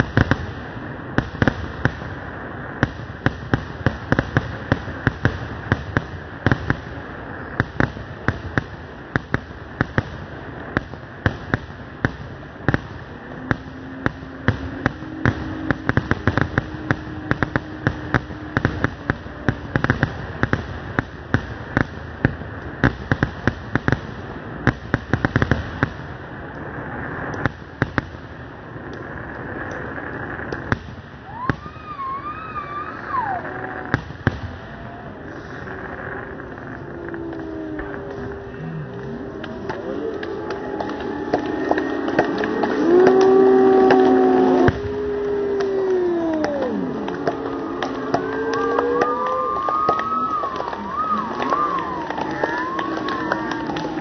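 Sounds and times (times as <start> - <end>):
fireworks crackle and rumble: 0.0 - 54.0.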